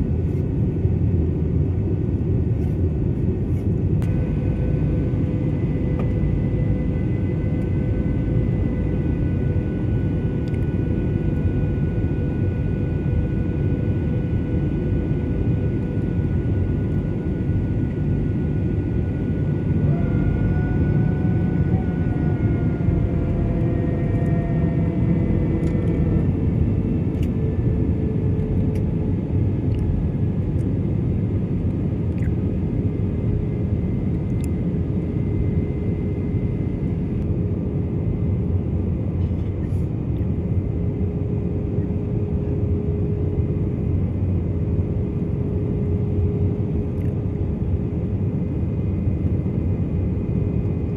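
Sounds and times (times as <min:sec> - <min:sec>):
jet engines rumbling and whining: 0:00.0 - 0:50.9.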